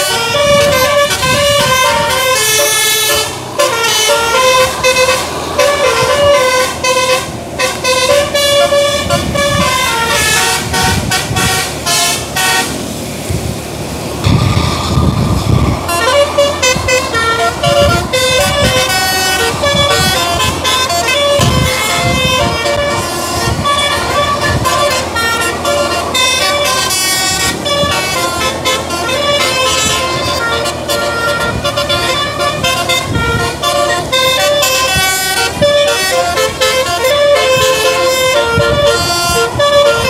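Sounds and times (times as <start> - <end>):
musical bus horn melody: 0.0 - 13.3, 14.0 - 40.0.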